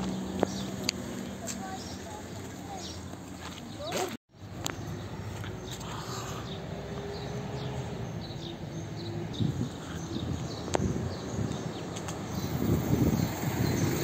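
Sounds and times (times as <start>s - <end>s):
small birds chirping: 0.0s - 14.0s
steady low street rumble: 0.0s - 14.0s.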